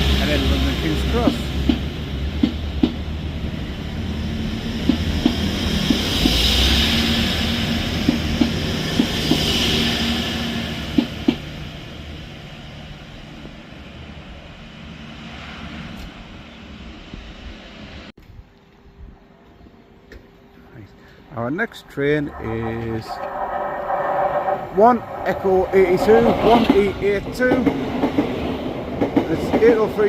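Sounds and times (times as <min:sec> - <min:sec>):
train rumble and hiss: 0:00.0 - 0:18.1, 0:20.6 - 0:30.0.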